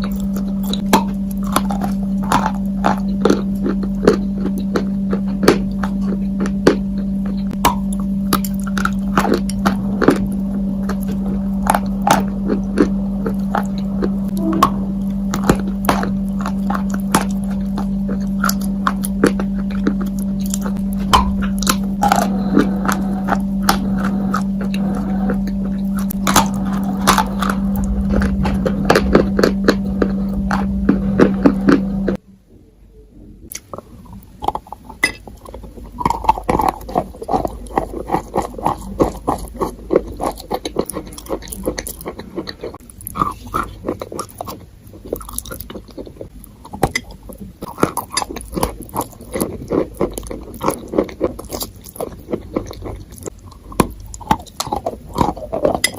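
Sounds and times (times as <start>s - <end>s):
close crunching and crackling: 0.0s - 32.2s, 33.5s - 55.9s
steady low hum: 0.0s - 55.9s.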